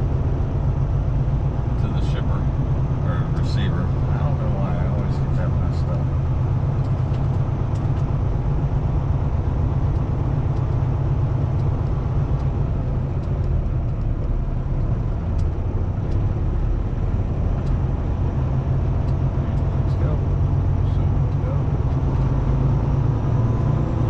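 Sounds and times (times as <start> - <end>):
diesel truck engine idling: 0.0 - 23.6.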